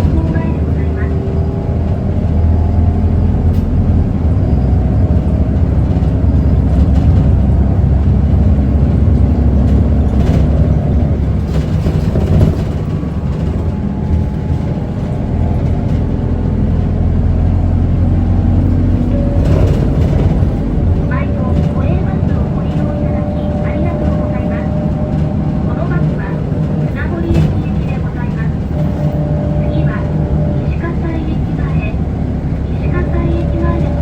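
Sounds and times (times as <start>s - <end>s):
bus engine rumble: 0.0s - 34.0s.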